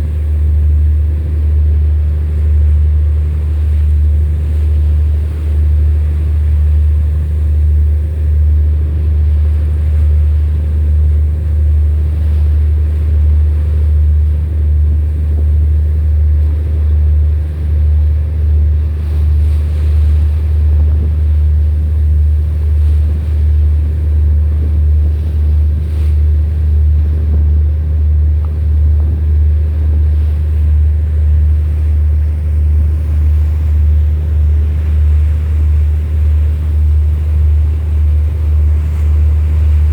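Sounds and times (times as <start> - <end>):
boat engine throbbing hum: 0.0 - 39.9.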